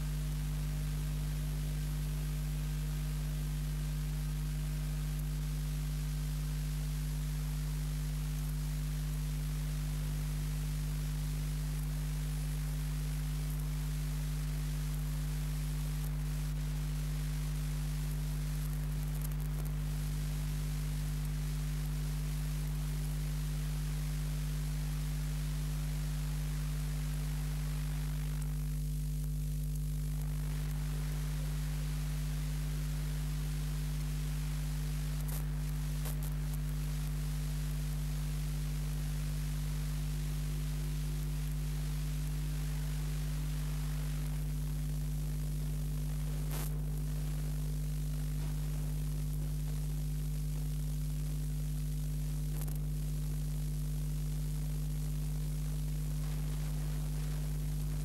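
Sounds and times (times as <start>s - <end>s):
constant hiss: 0.0s - 58.0s
electrical mains hum: 0.0s - 58.0s.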